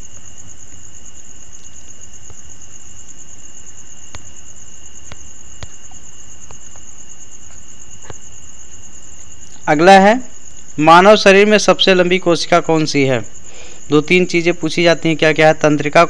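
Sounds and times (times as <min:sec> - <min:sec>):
background hiss: 0:00.0 - 0:16.0
constant high-pitched tones: 0:00.0 - 0:16.0.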